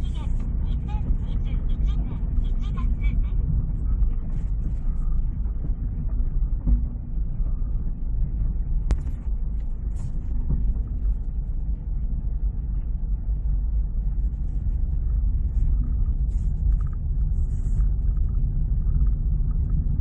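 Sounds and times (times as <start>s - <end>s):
car rumble from inside cabin: 0.0s - 20.0s.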